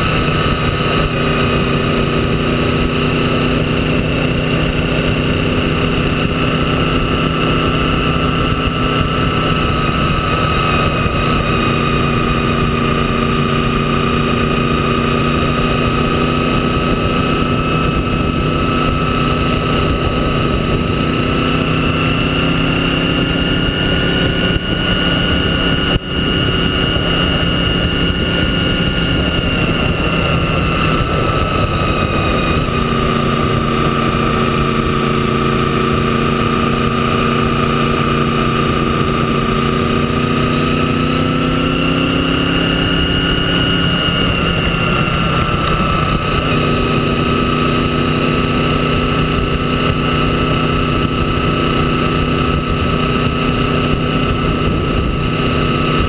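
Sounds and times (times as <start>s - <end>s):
motorcycle engine running: 0.0s - 56.0s
rushing wind: 0.0s - 56.0s.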